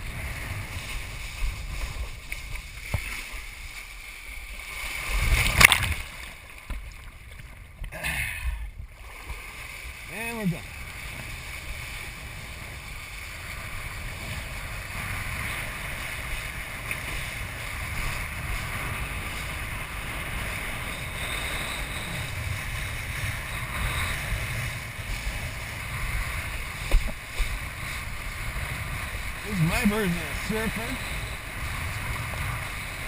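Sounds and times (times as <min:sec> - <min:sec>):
water rushing past board: 0:00.0 - 0:07.8, 0:08.9 - 0:33.0
wind buffeting microphone: 0:05.0 - 0:33.0.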